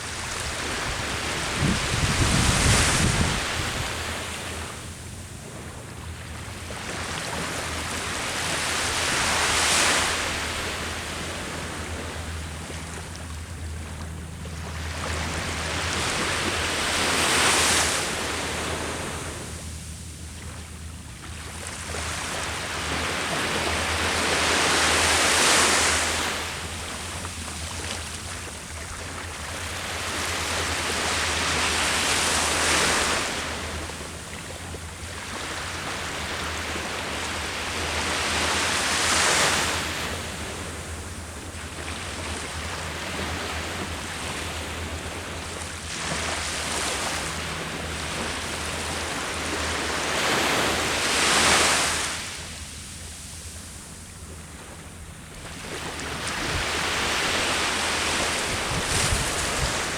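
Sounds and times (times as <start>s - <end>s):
sea waves crashing on shore: 0.0s - 20.3s, 21.0s - 59.9s.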